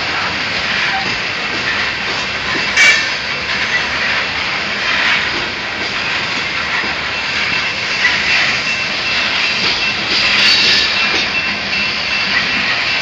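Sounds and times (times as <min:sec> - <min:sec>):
steel wheels rushing on rail: 0:00.0 - 0:13.0.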